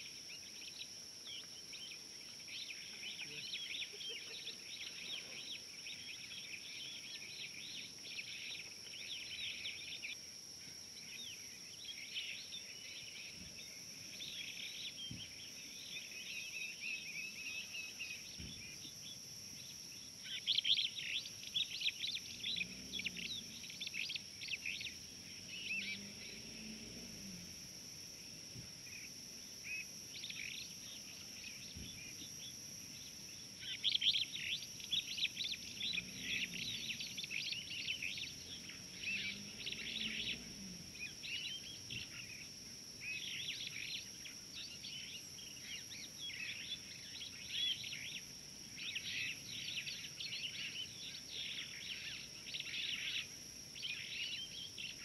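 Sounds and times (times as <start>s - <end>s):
wild birds chirping: 0.0s - 55.0s.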